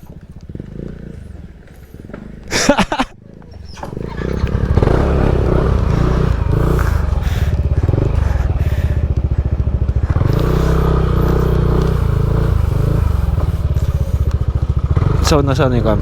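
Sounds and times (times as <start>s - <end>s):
clatter: 0.0s - 16.0s
motorcycle engine pulsing: 0.0s - 16.0s.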